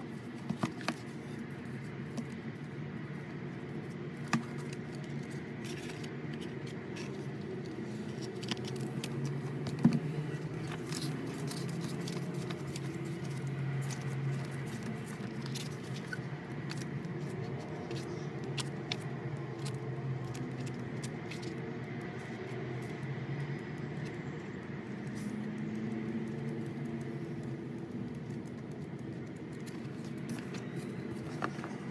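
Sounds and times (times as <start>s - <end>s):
low background hum: 0.0s - 31.9s
packaging clicks and rustles: 0.0s - 31.9s.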